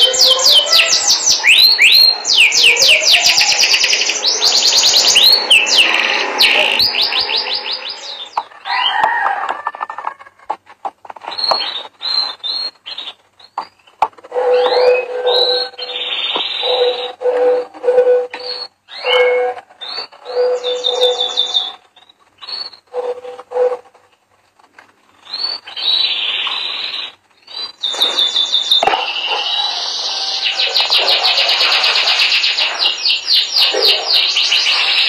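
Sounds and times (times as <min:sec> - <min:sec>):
canary singing trills: 0:00.0 - 0:09.2, 0:11.3 - 0:23.9, 0:25.2 - 0:35.0.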